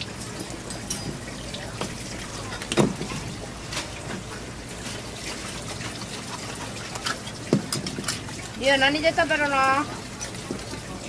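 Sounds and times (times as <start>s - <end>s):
running tap water: 0.0s - 11.0s.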